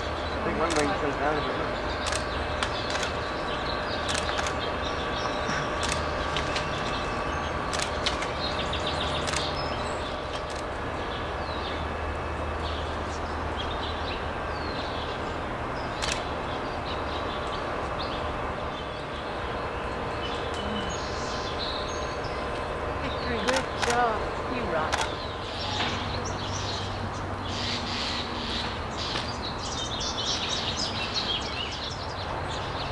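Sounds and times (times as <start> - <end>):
steady low rumble: 0.0 - 32.9.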